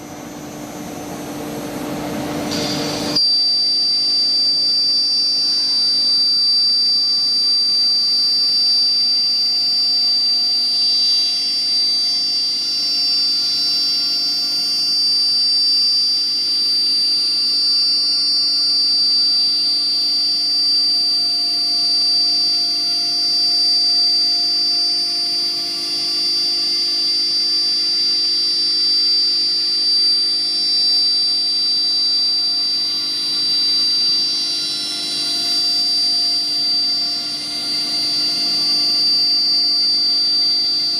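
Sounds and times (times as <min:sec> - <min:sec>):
spindle high-pitched whine: 0:00.0 - 0:40.9.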